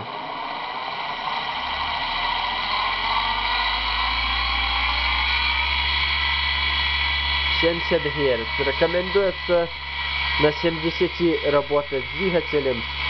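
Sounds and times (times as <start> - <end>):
electric motor hum rising in pitch: 0.0 - 13.0
steady high-pitched whine: 0.0 - 13.0.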